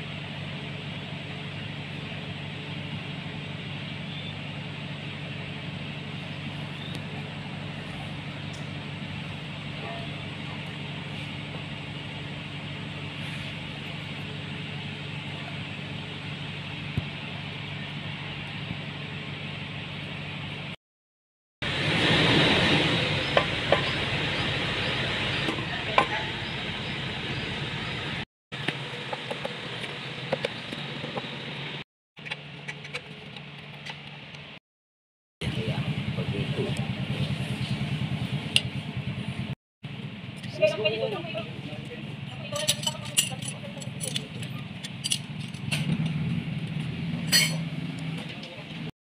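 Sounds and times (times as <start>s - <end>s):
engine humming steadily: 0.0s - 20.8s, 21.6s - 34.6s, 35.4s - 48.9s.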